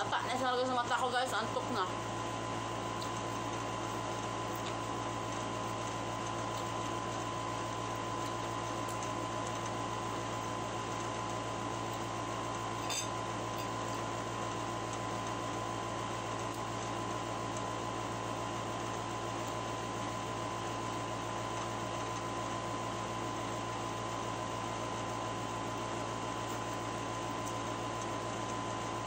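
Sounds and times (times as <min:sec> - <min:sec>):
mechanical room hum with whine: 0:00.0 - 0:29.0.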